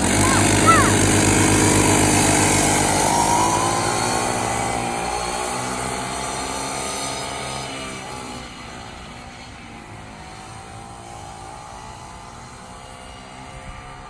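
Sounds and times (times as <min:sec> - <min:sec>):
two-stroke pocket bike engines: 0:00.0 - 0:14.0.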